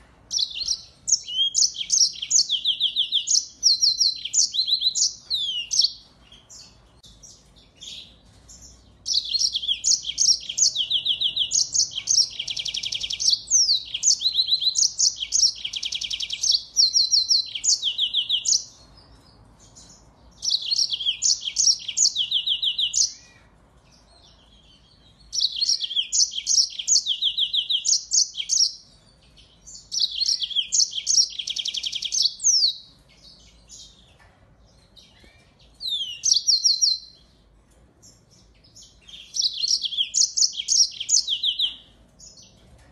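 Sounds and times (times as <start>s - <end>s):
finch singing trills: 0.0s - 37.4s, 38.0s - 42.6s.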